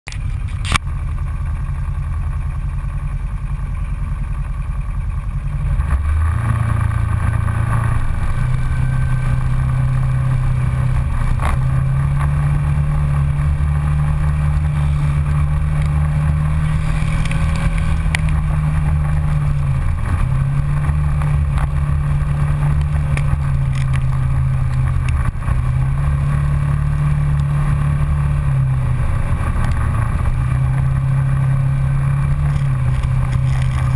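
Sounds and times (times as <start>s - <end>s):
utility vehicle engine running: 0.1s - 33.9s.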